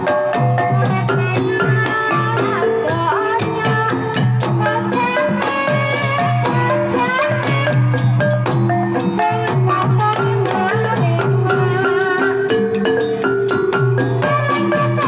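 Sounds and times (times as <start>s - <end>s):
struck bronze gongs and mallets: 0.0s - 15.0s.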